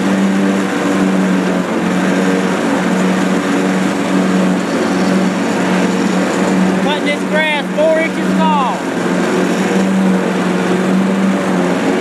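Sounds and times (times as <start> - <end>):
mower blades cutting grass: 0.0 - 12.0
mower engine hum: 0.0 - 12.0.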